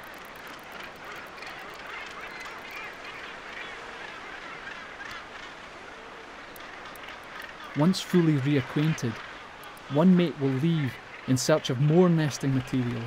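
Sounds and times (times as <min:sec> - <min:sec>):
seabird colony calling: 0:00.0 - 0:13.0.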